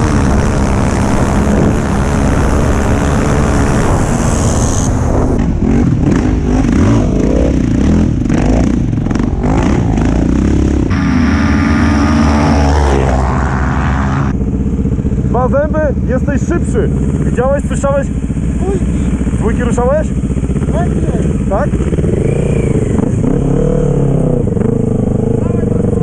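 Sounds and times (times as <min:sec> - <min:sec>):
quad engines revving: 0:00.0 - 0:14.4, 0:15.5 - 0:26.0.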